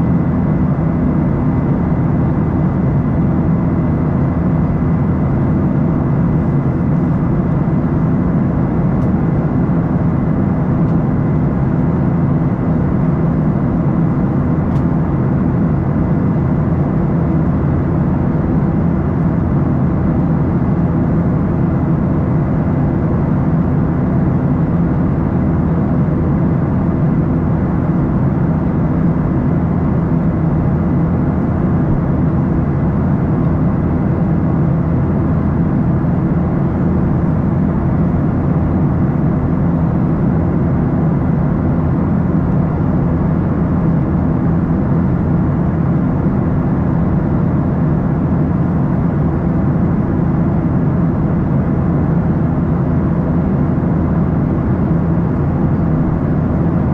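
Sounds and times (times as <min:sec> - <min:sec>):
jet engine drone: 0:00.0 - 0:56.9.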